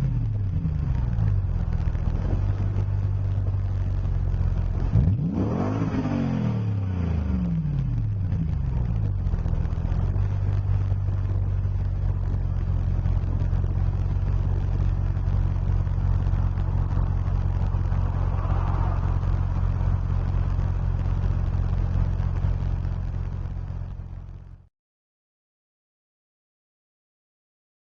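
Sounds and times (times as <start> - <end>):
engine revving and idling: 0.0 - 24.6.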